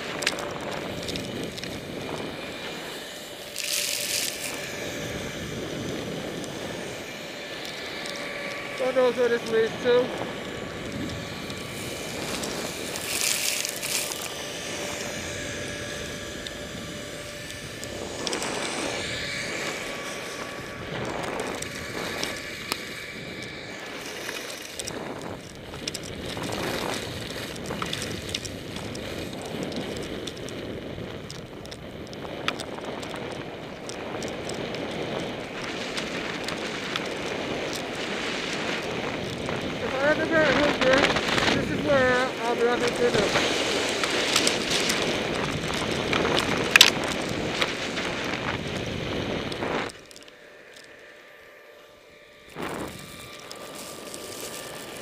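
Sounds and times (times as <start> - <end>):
skis sliding through powder snow: 0.0 - 55.0
wind buffeting microphone: 0.0 - 55.0.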